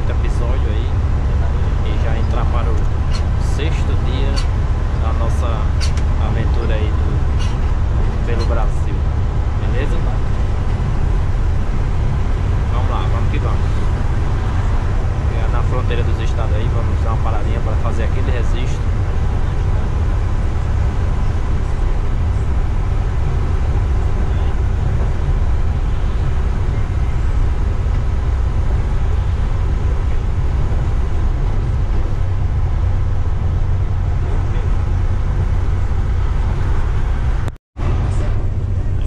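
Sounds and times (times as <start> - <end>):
coach engine and road noise: 0.0 - 39.0.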